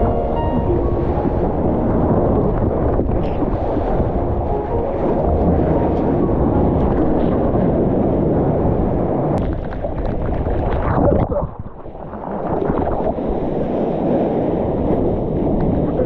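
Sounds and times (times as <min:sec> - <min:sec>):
rushing water: 0:00.0 - 0:16.0
wind buffeting microphone: 0:00.0 - 0:16.0.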